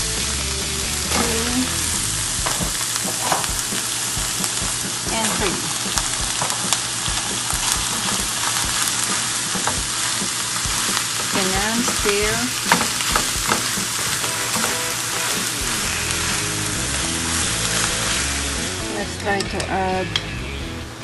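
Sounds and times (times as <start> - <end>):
meat sizzling in frying pan: 0.0 - 20.0
spatula scraping pan: 1.1 - 19.9.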